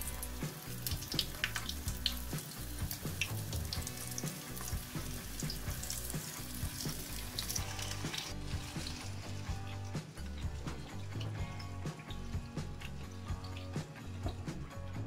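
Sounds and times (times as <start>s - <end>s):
batter sizzling in hot oil: 0.0s - 14.8s.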